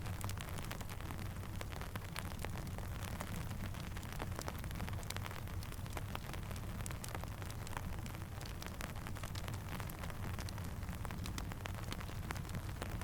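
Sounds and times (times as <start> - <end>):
campfire crackling: 0.0 - 13.0
steady rainfall: 0.0 - 13.0.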